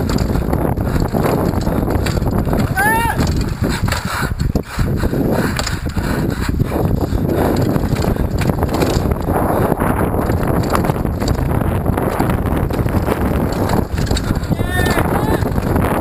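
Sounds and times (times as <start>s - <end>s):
bike frame rattling and knocking: 0.0s - 16.0s
wind buffeting microphone: 0.0s - 16.0s.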